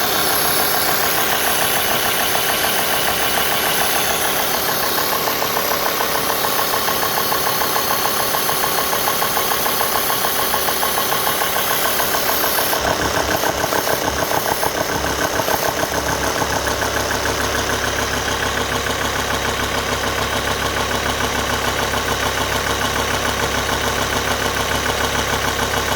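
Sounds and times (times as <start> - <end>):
diesel engine idling with clatter: 0.0 - 25.9.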